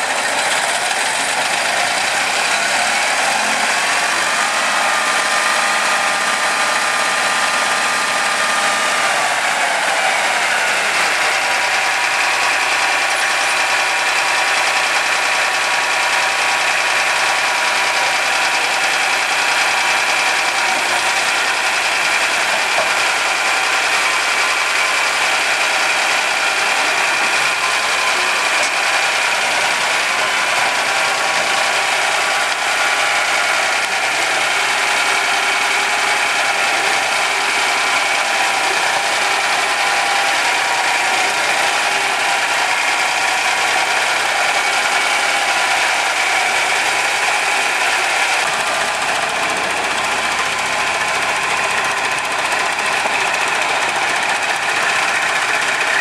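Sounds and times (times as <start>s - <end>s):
road roller engine running: 0.0s - 56.0s.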